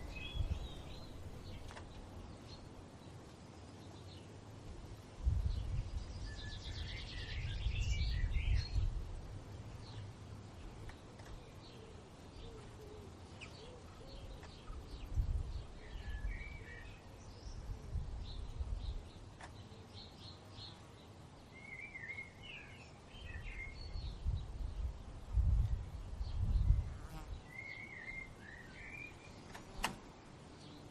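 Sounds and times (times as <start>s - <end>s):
songbirds chirping and warbling: 0.0s - 30.9s.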